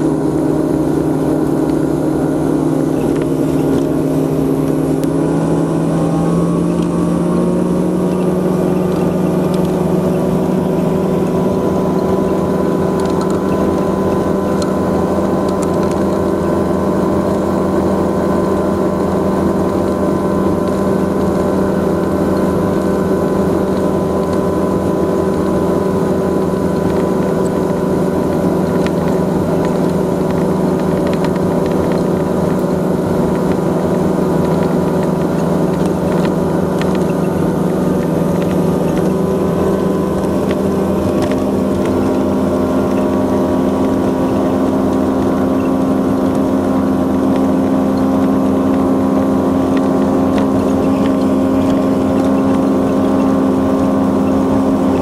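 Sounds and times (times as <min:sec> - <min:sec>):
outboard motor droning: 0:00.0 - 0:55.0
water noise: 0:00.0 - 0:55.0
wind: 0:00.0 - 0:55.0.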